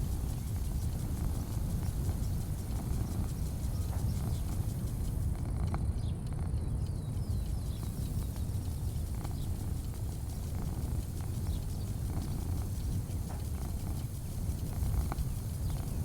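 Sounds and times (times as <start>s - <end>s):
faint chirps: 0.0s - 16.0s
faint clicks: 0.0s - 16.0s.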